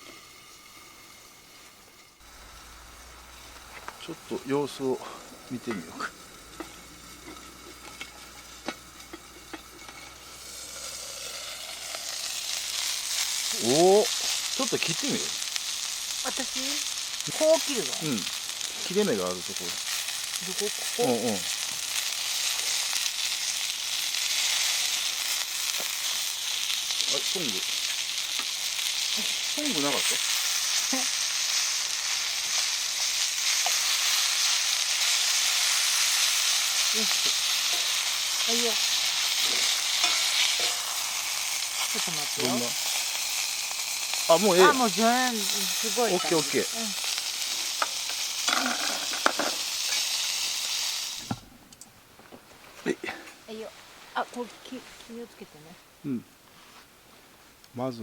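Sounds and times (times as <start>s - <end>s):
meat sizzling in a skillet: 0.0s - 51.4s.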